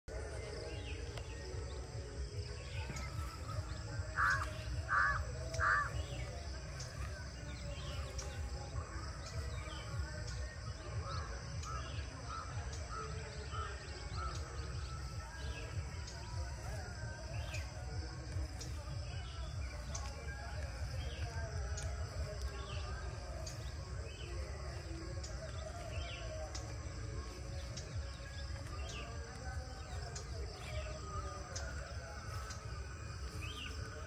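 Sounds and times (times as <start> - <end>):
small birds chirping faintly: 0.0 - 34.0
loud bird calls: 0.2 - 34.0.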